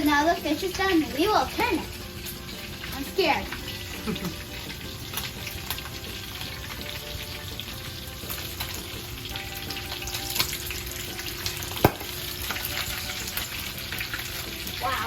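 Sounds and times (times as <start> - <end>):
fish frying in hot oil: 0.0 - 15.0
oil popping and crackling: 0.0 - 15.0.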